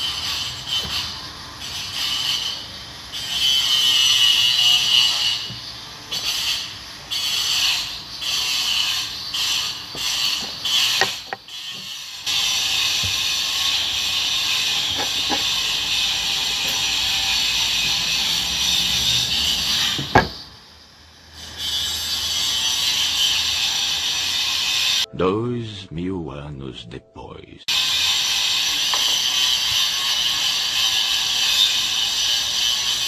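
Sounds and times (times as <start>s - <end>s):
power cutter cutting: 0.0s - 20.5s, 21.4s - 25.1s, 27.7s - 33.0s.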